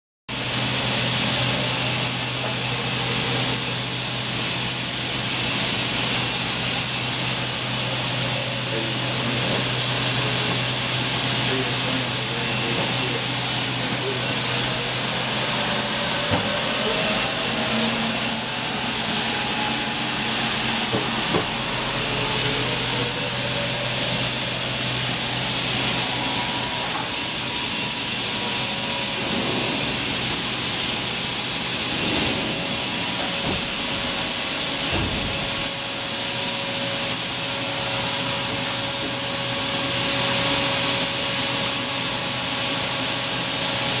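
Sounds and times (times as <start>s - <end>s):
machine drone with high whine: 0.3s - 44.0s.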